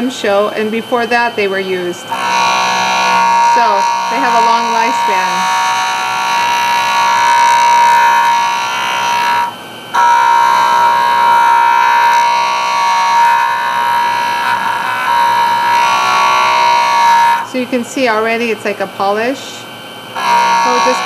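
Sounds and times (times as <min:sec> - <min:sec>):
diamond disc sanding whine: 0:00.0 - 0:18.4, 0:20.1 - 0:21.0.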